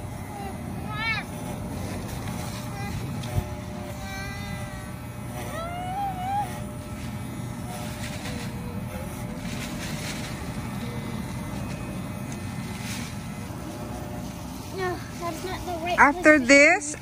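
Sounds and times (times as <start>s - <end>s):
electric dog clippers buzzing: 0.0s - 17.0s.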